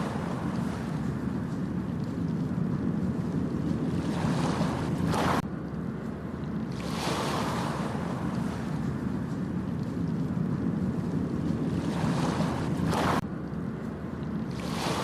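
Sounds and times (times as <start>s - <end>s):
ocean waves washing up beach: 0.0s - 5.5s, 6.6s - 13.2s, 14.4s - 15.0s
low rumble of surf: 0.0s - 15.0s
wind on microphone: 0.0s - 15.0s.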